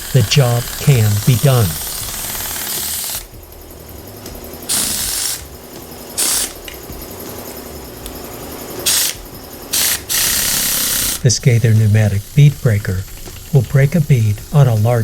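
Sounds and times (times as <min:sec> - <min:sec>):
air hiss bursts: 0:00.0 - 0:15.0
low mechanical rumble: 0:00.0 - 0:15.0.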